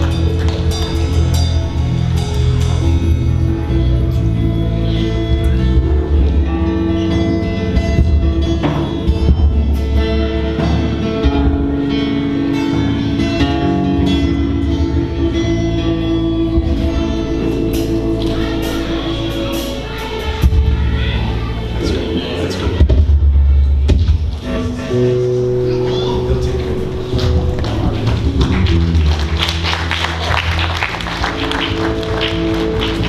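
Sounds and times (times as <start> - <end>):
band music with guitar and drums: 0.0 - 33.0.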